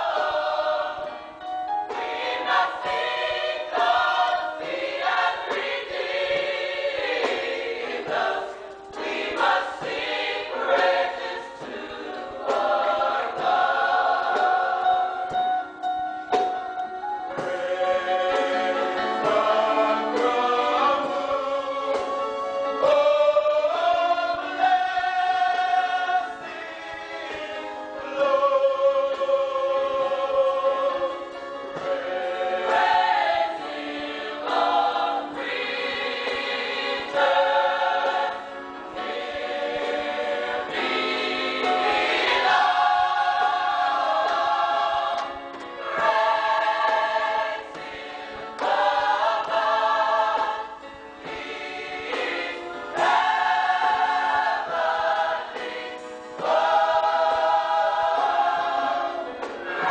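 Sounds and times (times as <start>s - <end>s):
gospel choir singing: 0.0s - 59.9s.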